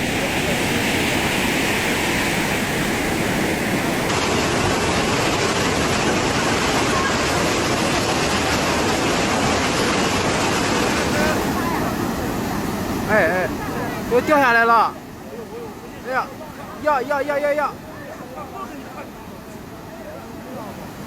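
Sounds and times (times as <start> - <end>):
fast-flowing floodwater rushing: 0.0 - 21.0.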